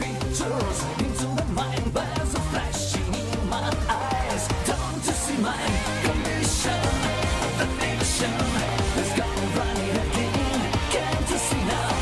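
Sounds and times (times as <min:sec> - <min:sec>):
music with beat and bass line: 0:00.0 - 0:12.0.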